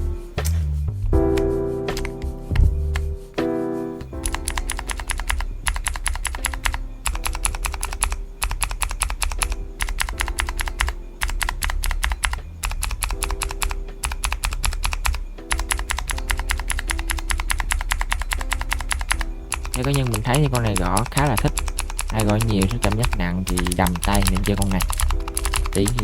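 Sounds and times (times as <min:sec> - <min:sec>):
clicky mechanical keyboard typing: 0:01.4 - 0:03.1, 0:04.0 - 0:26.0.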